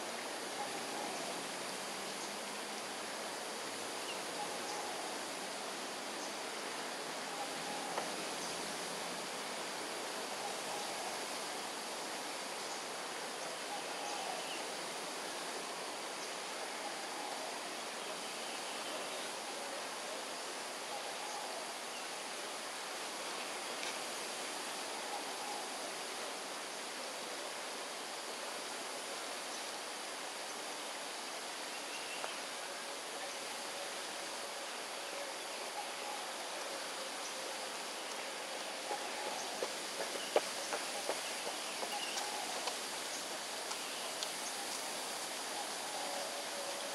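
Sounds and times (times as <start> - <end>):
forest ambience hiss: 0.0 - 46.9.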